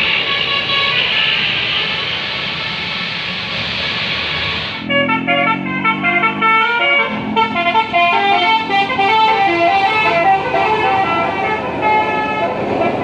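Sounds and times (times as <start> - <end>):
bus musical horn melody: 0.1 - 2.1, 4.4 - 13.0.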